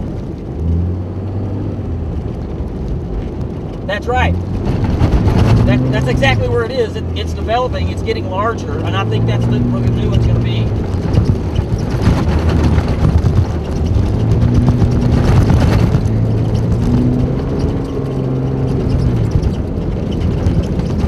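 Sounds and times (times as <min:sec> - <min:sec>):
rush of road noise: 0:00.0 - 0:21.0
vehicle engine and road drone: 0:00.0 - 0:21.0.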